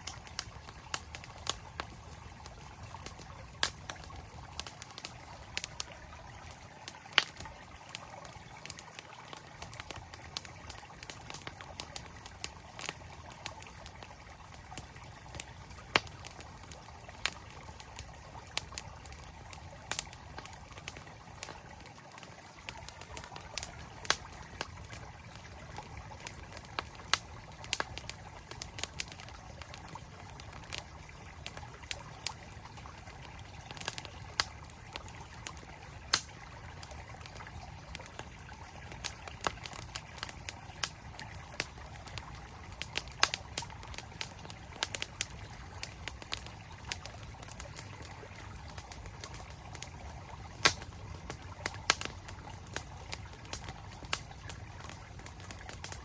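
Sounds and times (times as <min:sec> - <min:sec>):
campfire crackling and popping: 0:00.0 - 0:56.0
flowing stream: 0:00.0 - 0:56.0.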